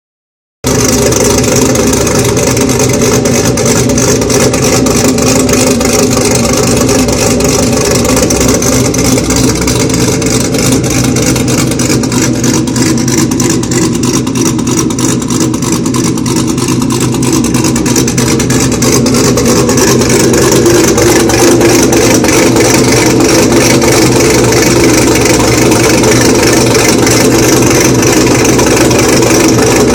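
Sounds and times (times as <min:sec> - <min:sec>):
car engine rough idle: 0:00.6 - 0:29.9.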